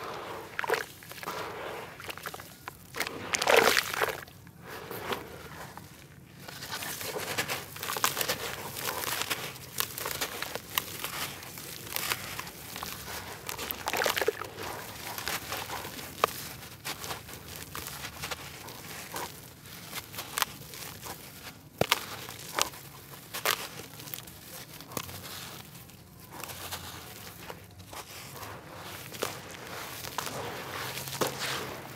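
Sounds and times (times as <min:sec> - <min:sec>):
wet dirt crunching and crumbling: 0:00.0 - 0:31.9.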